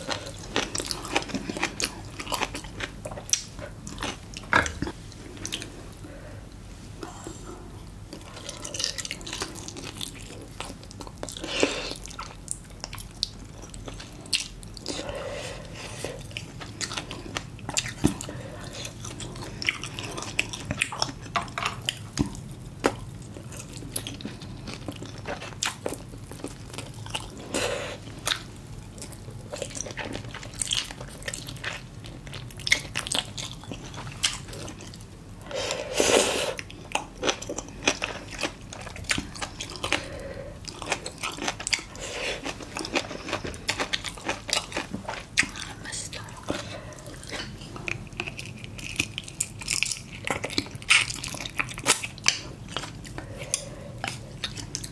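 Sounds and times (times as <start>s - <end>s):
person chewing and crunching: 0.0s - 54.9s.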